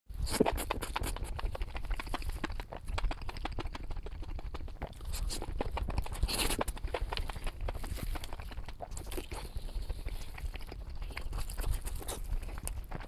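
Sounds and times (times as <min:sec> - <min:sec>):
crunchy chewing: 0:00.1 - 0:13.0
mouth clicks: 0:00.2 - 0:13.0.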